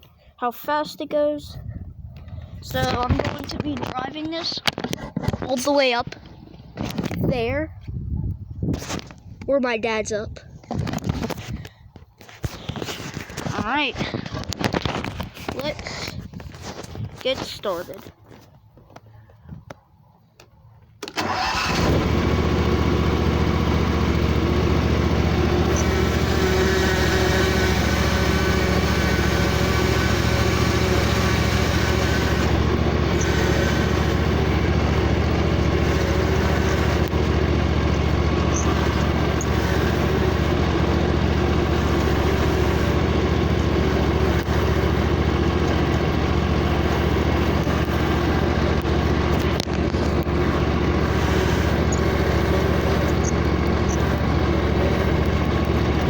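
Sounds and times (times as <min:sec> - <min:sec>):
riding lawnmower engine running: 0:02.2 - 0:07.7, 0:10.7 - 0:19.1, 0:20.4 - 0:56.0.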